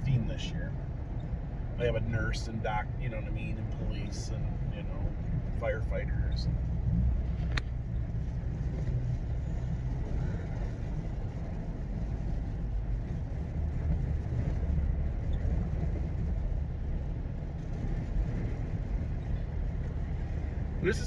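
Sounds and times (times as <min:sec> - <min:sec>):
car engine rumble: 0:00.0 - 0:21.0
tyres on wet road: 0:00.0 - 0:21.0.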